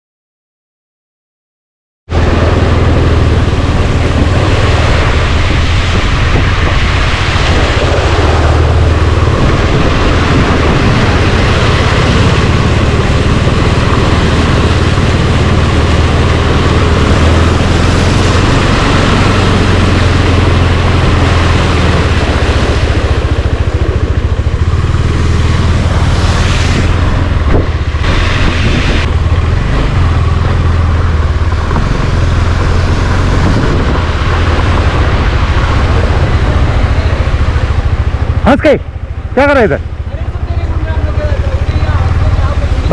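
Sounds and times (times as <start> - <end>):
road vehicle rumble: 2.1 - 42.9.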